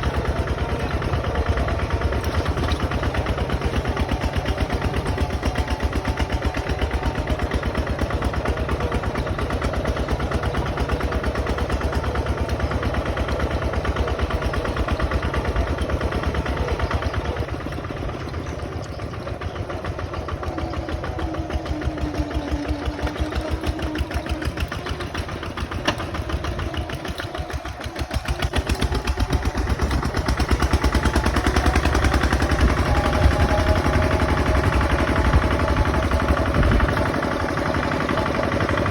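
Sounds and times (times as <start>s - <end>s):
bulldozer diesel engine chugging: 0.0s - 38.9s.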